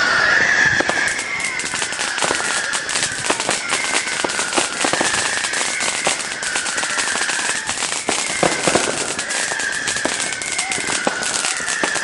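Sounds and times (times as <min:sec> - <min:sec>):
fireworks crackling: 0:00.0 - 0:12.0
steady high wavering tone: 0:00.0 - 0:12.0.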